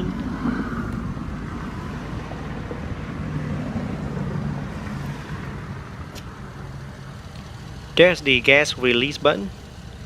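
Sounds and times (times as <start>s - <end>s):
low car background noise: 0.0s - 10.0s.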